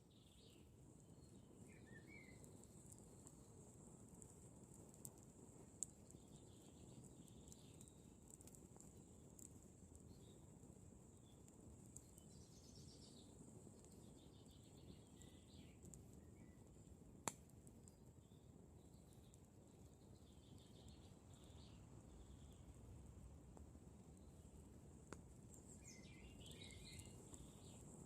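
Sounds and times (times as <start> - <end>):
campfire hissing: 0.0 - 28.0
fire crackle: 0.0 - 28.0.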